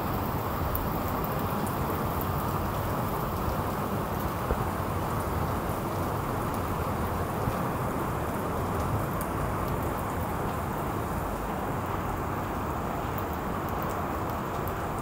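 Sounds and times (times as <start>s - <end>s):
heavy rain on lawn and path: 0.0s - 15.0s.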